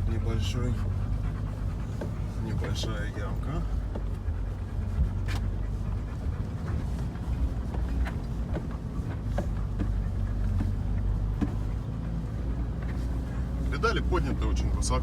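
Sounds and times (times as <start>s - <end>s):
car engine running at low revs: 0.0s - 15.0s
interior knocks and rattles: 0.0s - 15.0s.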